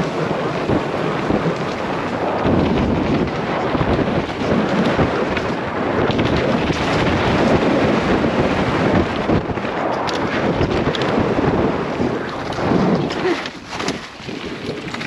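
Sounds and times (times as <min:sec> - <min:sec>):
bike rattles and ticks: 0:00.0 - 0:15.0
wind buffeting microphone: 0:00.0 - 0:15.0.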